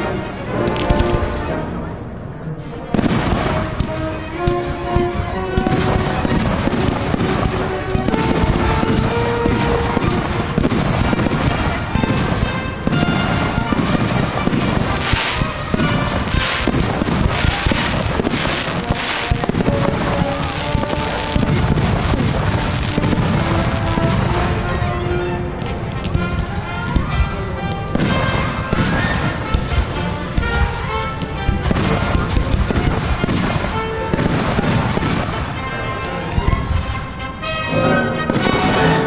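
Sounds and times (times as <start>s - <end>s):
fireworks bursting: 0.0s - 39.0s
music playing a melody: 3.0s - 39.0s.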